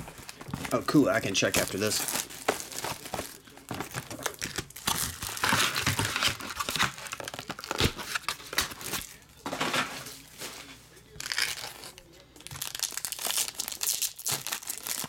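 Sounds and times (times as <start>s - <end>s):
cellophane wrap crinkling and tearing: 0.0s - 10.5s, 11.1s - 15.0s.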